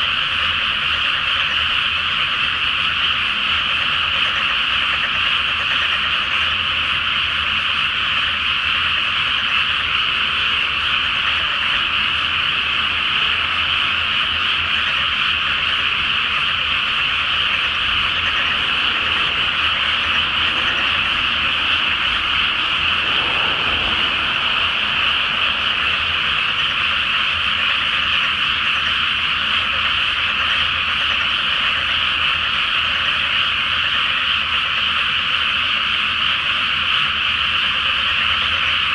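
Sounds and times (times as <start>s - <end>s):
frogs croaking: 0.1s - 38.2s.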